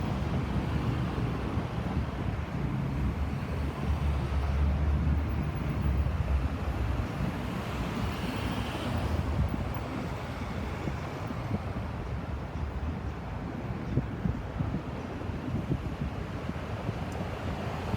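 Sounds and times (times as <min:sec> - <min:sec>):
wind buffeting microphone: 0:00.0 - 0:08.2, 0:09.0 - 0:17.9
road traffic noise: 0:00.0 - 0:17.9.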